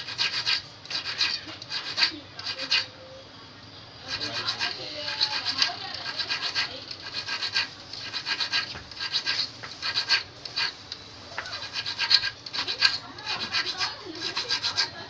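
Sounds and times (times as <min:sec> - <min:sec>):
needle file scraping steel hook: 0:00.0 - 0:02.9, 0:04.1 - 0:10.7, 0:11.4 - 0:15.0.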